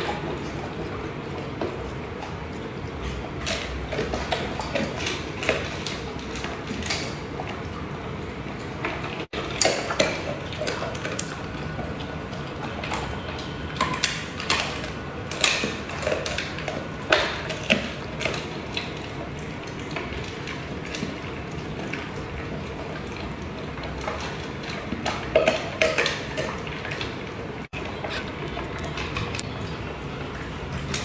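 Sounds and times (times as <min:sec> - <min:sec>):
dogs crunching food: 0:00.0 - 0:31.0.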